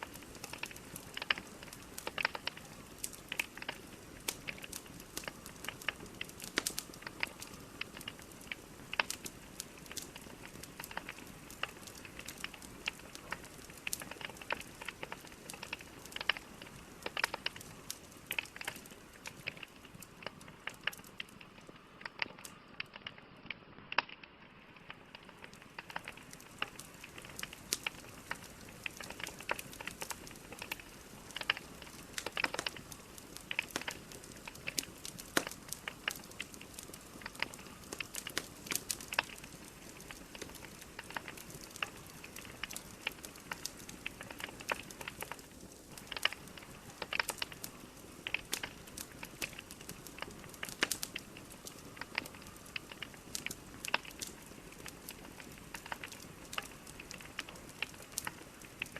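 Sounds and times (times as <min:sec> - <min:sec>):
logs crackling in fireplace: 0:00.0 - 0:58.9.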